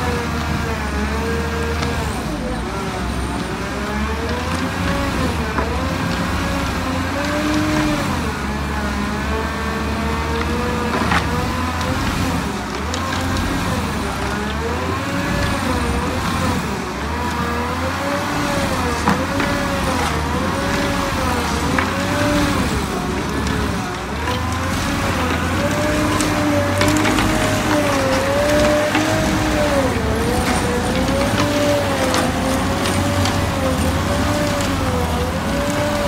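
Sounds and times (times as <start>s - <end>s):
diesel engine rumble: 0.0s - 36.0s
stump grinder whine: 0.0s - 36.0s.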